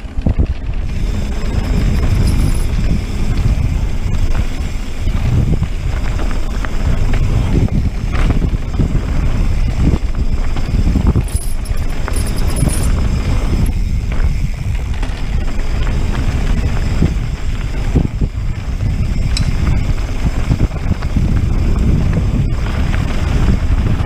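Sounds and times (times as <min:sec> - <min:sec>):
bike knocks and rattles: 0:00.0 - 0:24.0
tyres rolling on dirt trail: 0:00.0 - 0:24.0
wind buffeting microphone: 0:00.0 - 0:24.0.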